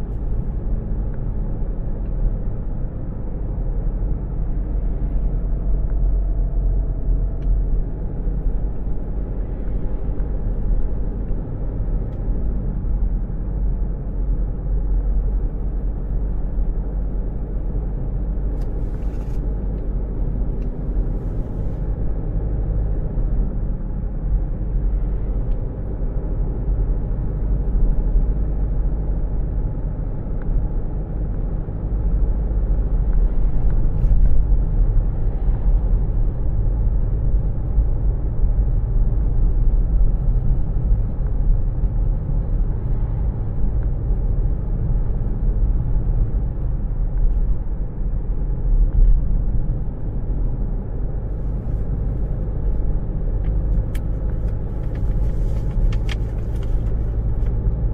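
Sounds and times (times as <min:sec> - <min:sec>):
car engine and tyre rumble: 0:00.0 - 0:57.9.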